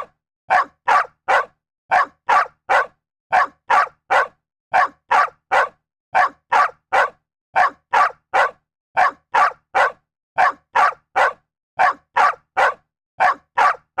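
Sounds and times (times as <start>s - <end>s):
dog barking: 0.0s - 14.0s.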